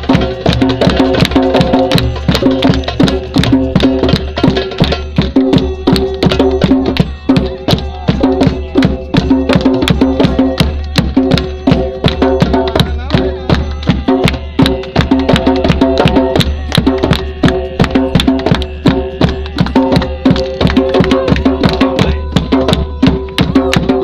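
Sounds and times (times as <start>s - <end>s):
drum played in quick rhythm: 0.0s - 24.0s.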